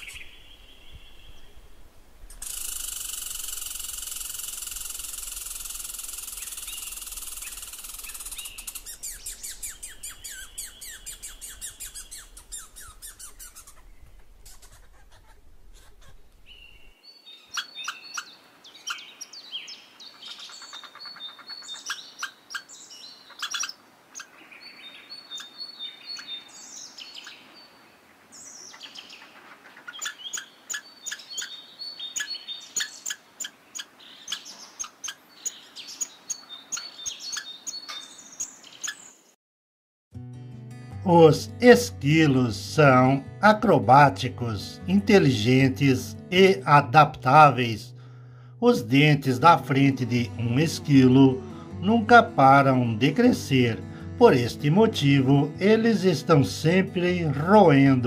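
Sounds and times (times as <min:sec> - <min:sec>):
birds chirping and singing: 0:00.0 - 0:01.6, 0:02.4 - 0:39.3, 0:48.6 - 0:58.0.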